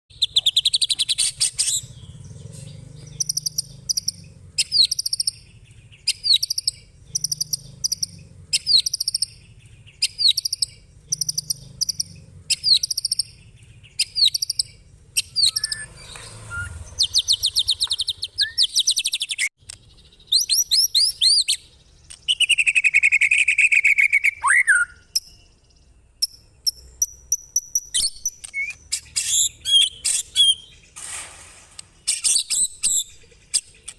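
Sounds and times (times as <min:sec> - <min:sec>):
songbird chattering: 0:00.1 - 0:31.0.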